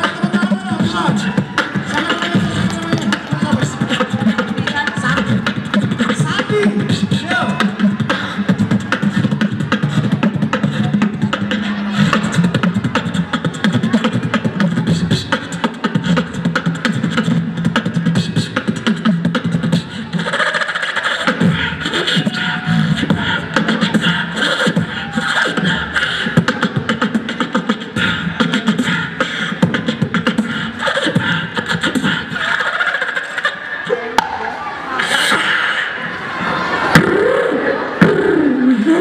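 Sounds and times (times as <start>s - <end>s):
beatboxing vocal percussion: 0.0s - 36.0s, 36.9s - 39.0s.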